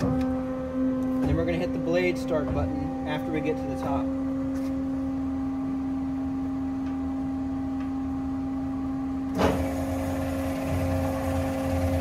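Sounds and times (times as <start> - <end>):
hydraulic pump humming: 0.0 - 12.0.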